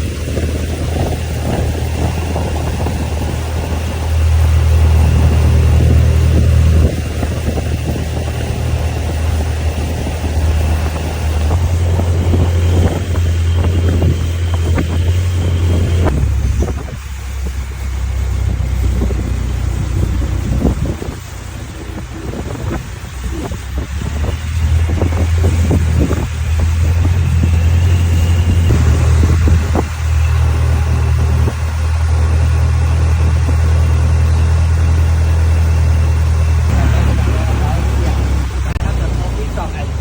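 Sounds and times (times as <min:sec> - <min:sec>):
engine running: 0:00.0 - 0:40.0
wind buffeting microphone: 0:00.0 - 0:40.0.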